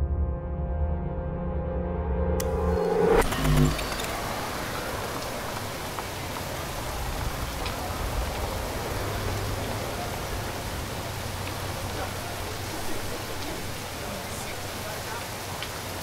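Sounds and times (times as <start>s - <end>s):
steady rain falling: 2.4s - 16.0s.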